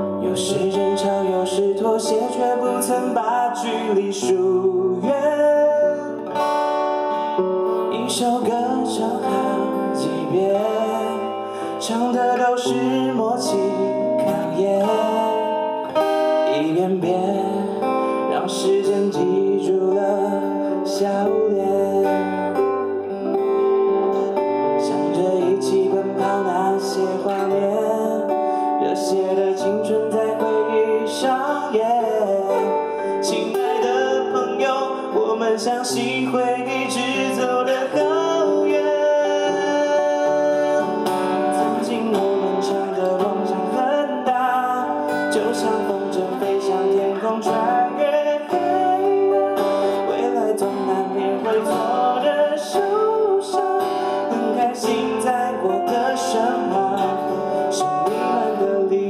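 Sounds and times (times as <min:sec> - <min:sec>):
picked acoustic guitar melody: 0:00.0 - 0:59.0
strummed guitar chords: 0:00.0 - 0:59.0.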